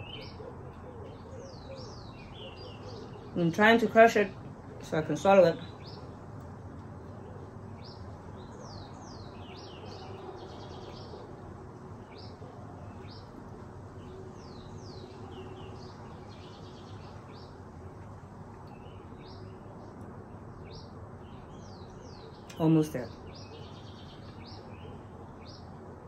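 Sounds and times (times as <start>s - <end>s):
low background noise: 0.0s - 26.0s
small birds chirping: 0.0s - 26.0s.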